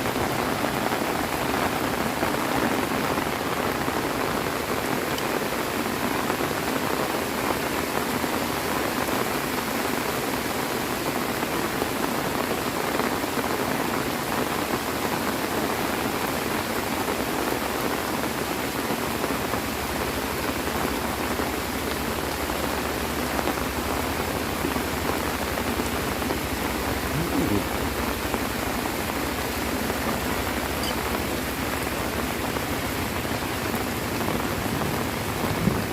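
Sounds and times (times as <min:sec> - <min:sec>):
heavy rain pattering: 0:00.0 - 0:35.9.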